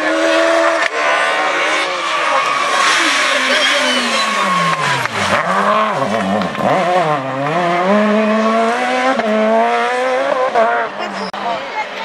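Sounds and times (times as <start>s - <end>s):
rally car engine revving: 0.0s - 11.4s.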